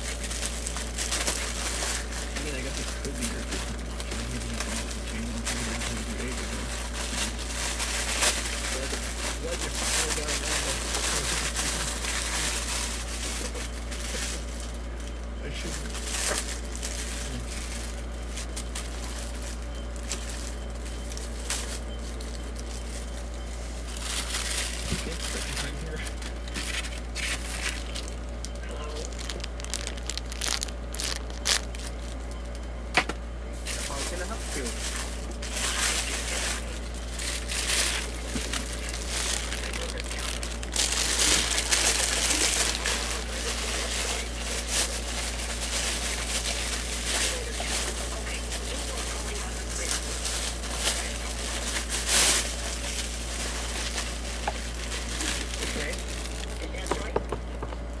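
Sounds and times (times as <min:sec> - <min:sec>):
plastic bag crinkling: 0:00.0 - 0:32.8, 0:33.6 - 0:58.0
steady low hum: 0:00.0 - 0:58.0.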